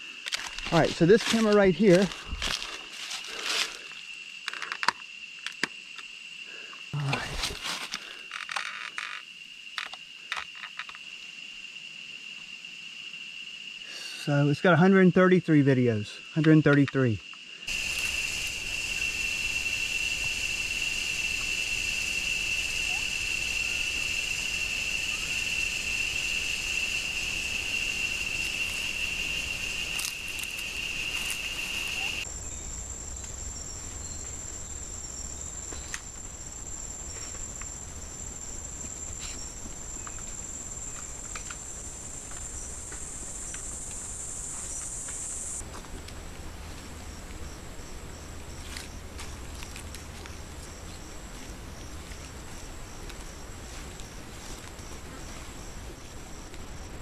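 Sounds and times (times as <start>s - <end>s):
insects droning high-pitched: 0.0s - 57.0s.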